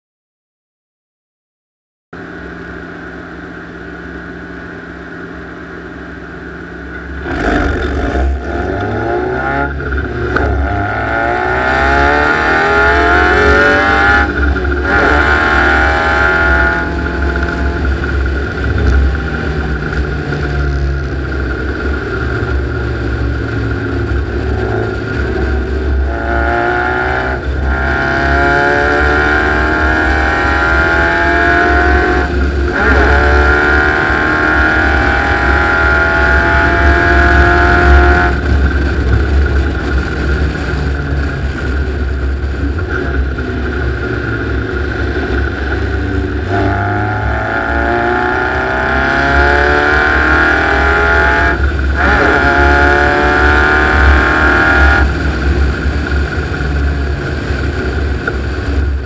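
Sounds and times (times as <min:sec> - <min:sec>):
vehicle engine accelerating: 0:02.2 - 0:59.0.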